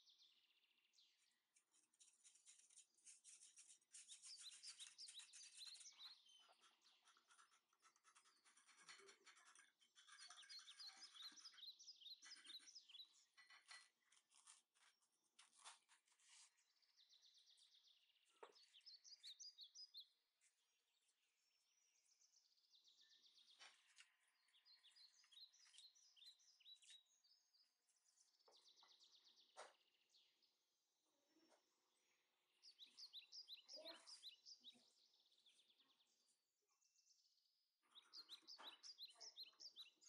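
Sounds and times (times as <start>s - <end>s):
faint bird chirps and trills: 0.0s - 40.0s.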